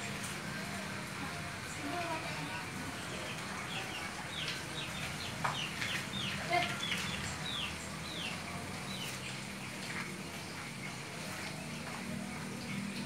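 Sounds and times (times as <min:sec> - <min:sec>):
birds chirping: 0:01.6 - 0:13.0.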